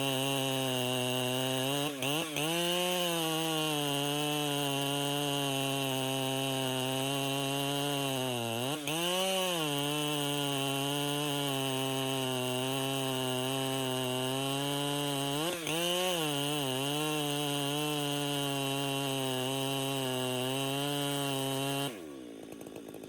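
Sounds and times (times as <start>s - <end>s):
chainsaw cutting: 0.0s - 23.0s.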